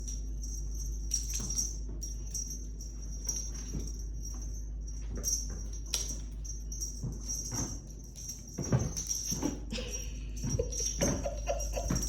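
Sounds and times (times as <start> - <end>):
small bell jingling: 0.0 - 12.0
steady low hum: 0.0 - 12.0.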